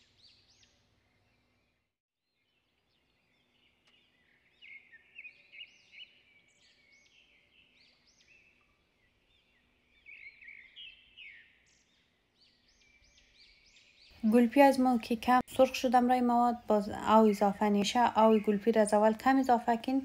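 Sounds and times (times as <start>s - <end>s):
birds chirping: 0.0s - 1.8s, 2.4s - 20.0s.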